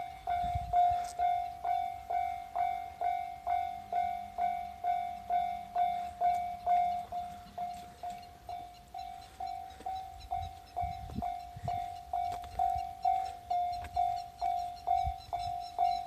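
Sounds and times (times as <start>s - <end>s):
level-crossing warning bell dinging: 0.0s - 16.0s.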